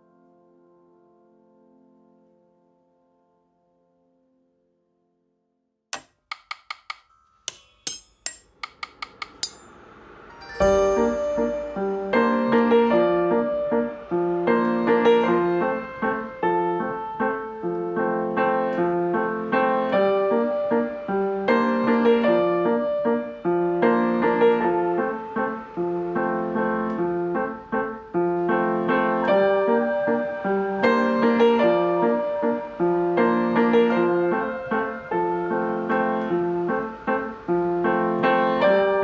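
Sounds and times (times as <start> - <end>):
gentle piano music: 0.0 - 5.2, 10.2 - 39.0.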